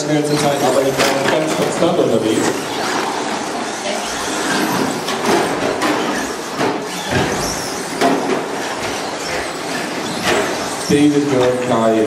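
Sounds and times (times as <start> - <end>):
toy trucks racing: 0.0 - 11.6.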